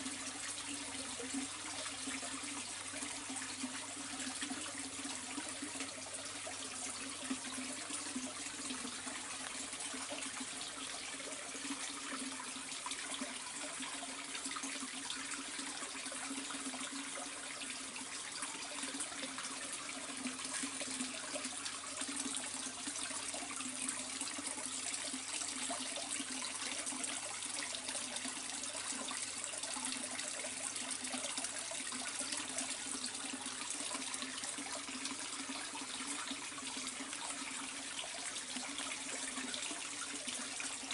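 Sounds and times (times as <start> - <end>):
water splashing into a pond: 0.0 - 40.9.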